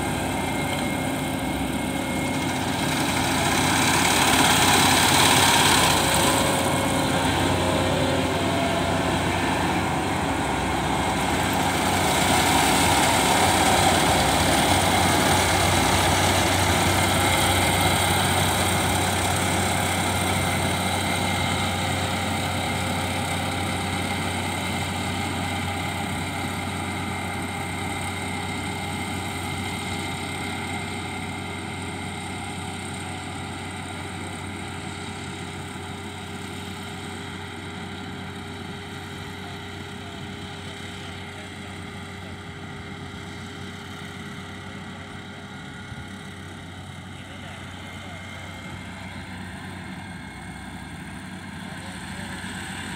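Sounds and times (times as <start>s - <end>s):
combine harvester engine running: 0.0s - 52.9s.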